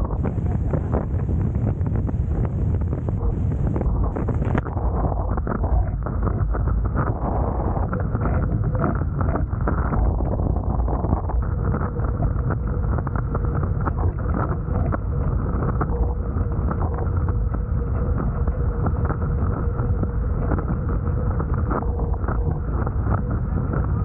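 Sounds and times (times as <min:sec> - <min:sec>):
faint steady hum: 0:00.0 - 0:24.0
wind buffeting microphone: 0:00.0 - 0:24.0.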